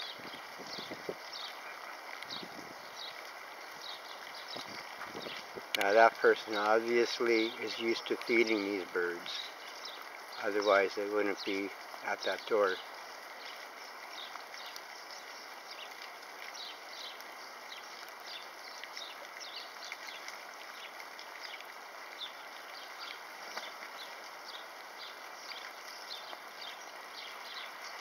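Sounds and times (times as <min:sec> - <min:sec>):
soft steady hiss: 0:00.0 - 0:28.0.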